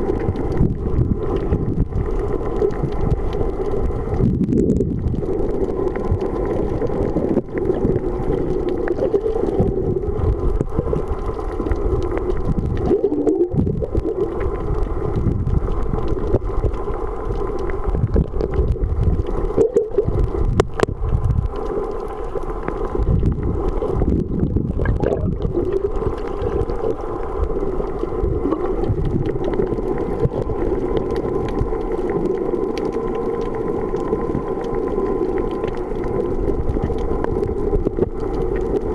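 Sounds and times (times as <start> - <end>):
muffled underwater water rush: 0.0 - 38.9.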